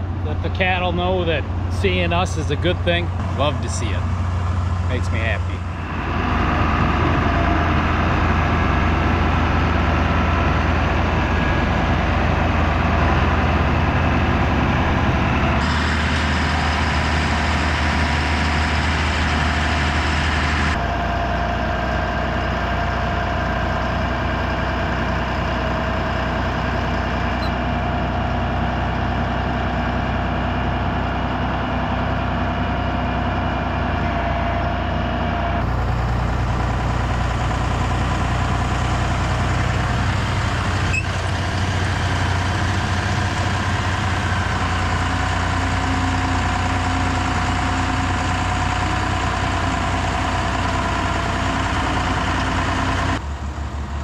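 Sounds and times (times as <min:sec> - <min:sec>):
farm machinery engines running: 0:00.0 - 0:54.0.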